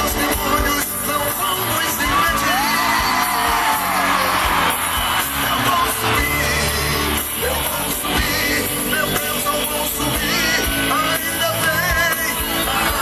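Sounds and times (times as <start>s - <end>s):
electric bass: 0.0s - 13.0s
gospel band playing: 0.0s - 13.0s.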